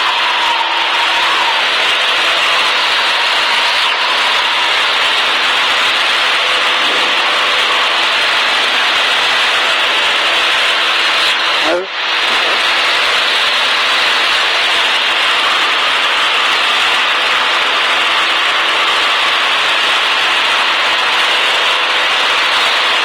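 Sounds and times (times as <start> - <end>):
small plane engine and propeller: 0.1 - 23.0.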